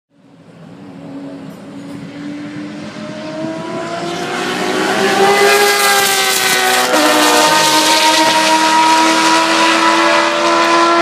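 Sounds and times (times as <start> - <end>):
race car engine accelerating: 0.9 - 11.0.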